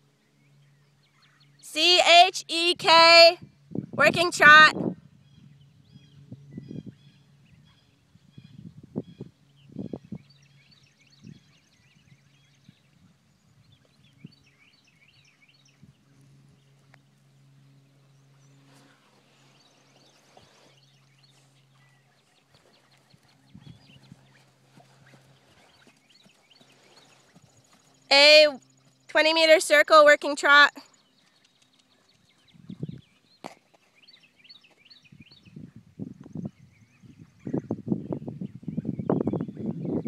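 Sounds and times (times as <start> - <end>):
steady low hum: 0.0 - 40.0
birds chirping and trilling: 5.1 - 40.0.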